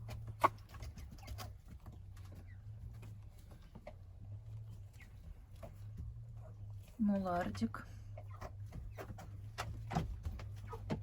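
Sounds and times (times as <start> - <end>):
ducklings peeping: 0.0 - 6.9, 8.1 - 11.0
ducklings pattering and pecking: 0.0 - 11.0
low steady hum: 0.0 - 11.0.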